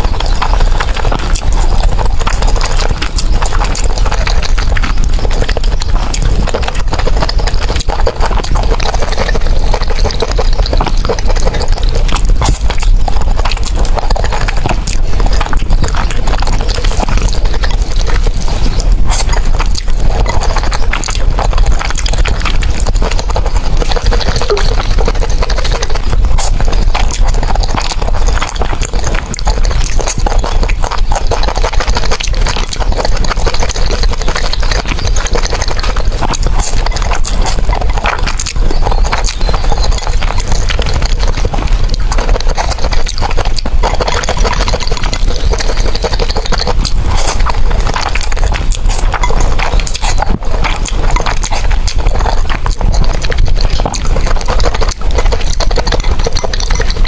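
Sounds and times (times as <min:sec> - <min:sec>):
close-up chewing and crunching: 0:00.0 - 0:57.0.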